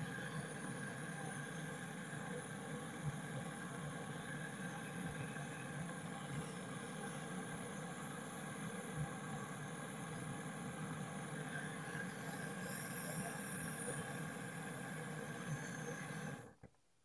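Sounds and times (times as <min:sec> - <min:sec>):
gas torch burning: 0:00.0 - 0:16.6.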